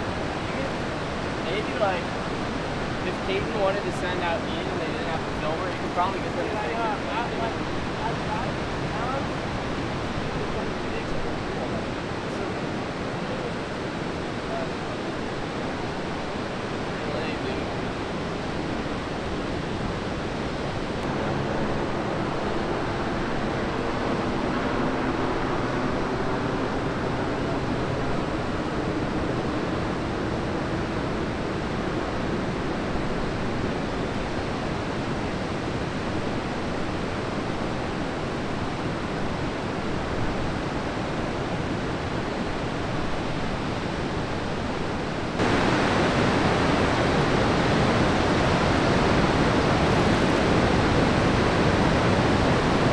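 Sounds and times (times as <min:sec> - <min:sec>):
ocean surf breaking: 0:00.0 - 0:52.9.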